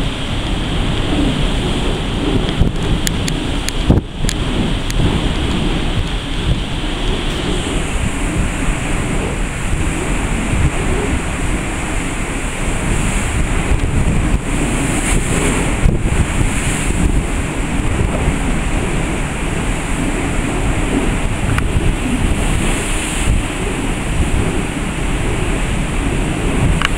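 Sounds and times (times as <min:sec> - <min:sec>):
rough sea hissing: 0:00.0 - 0:26.8
wind buffeting microphone: 0:00.0 - 0:26.9.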